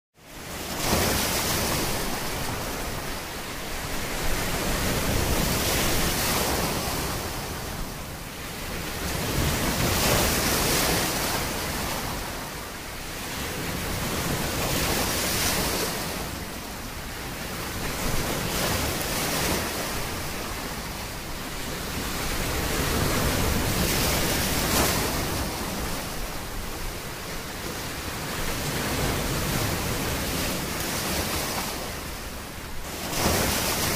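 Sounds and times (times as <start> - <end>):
ocean waves rushing: 0.3 - 33.9.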